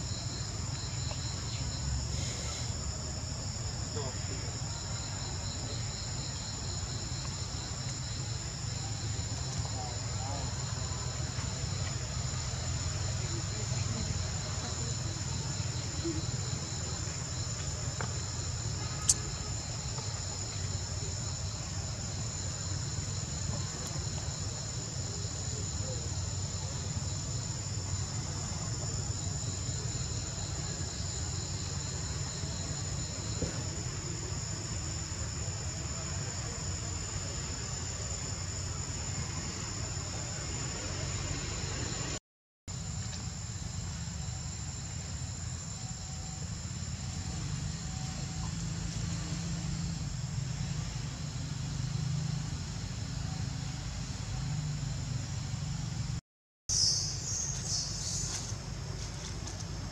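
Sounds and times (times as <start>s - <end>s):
insects buzzing: 0.0s - 55.7s, 56.7s - 59.9s.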